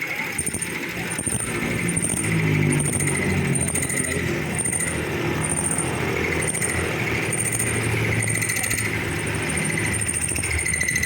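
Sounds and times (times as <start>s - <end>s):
lathe whirring with high whine: 0.0s - 11.0s.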